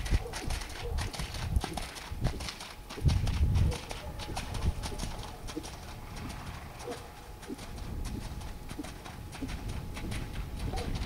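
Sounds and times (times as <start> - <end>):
horse hoofbeats on wet sand: 0.0 - 11.0.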